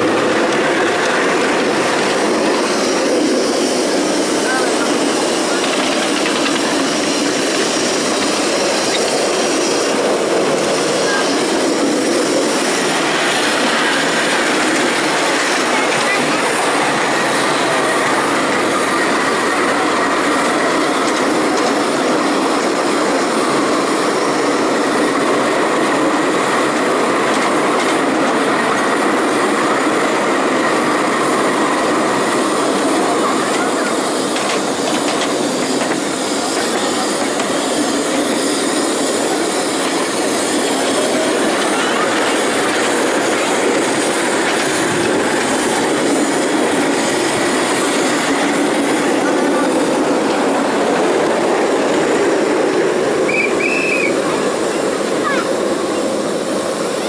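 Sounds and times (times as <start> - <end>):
miniature train rattling on track: 0.0 - 57.0.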